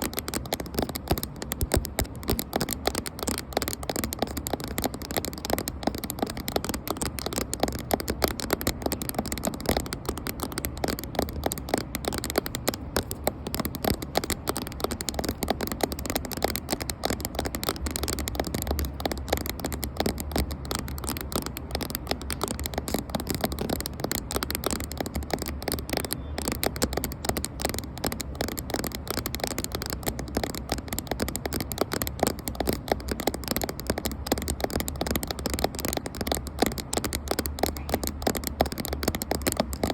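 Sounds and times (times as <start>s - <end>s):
fingers tapping on camera: 0.0s - 39.9s.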